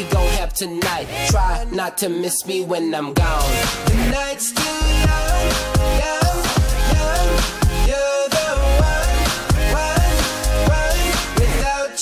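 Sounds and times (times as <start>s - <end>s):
song with heavy beat: 0.0s - 12.0s.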